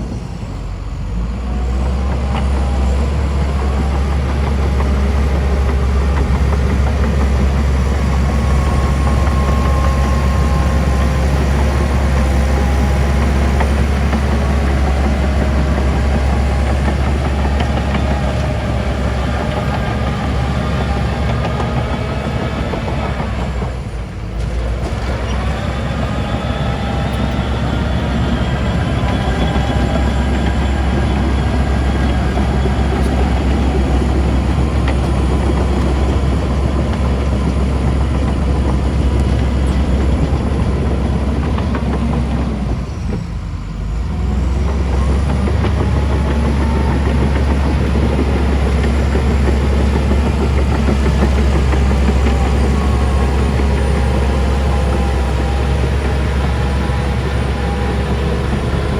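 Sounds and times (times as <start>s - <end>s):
heavy diesel machinery running: 0.0s - 58.9s.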